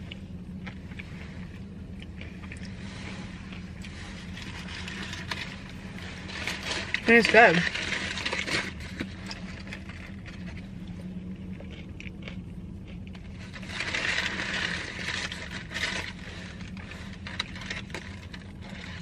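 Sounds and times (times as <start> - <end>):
chewing crispy food: 0.0 - 19.0
steady low hum: 0.0 - 19.0
foil paper wrapper crinkling: 2.4 - 12.2, 13.0 - 19.0.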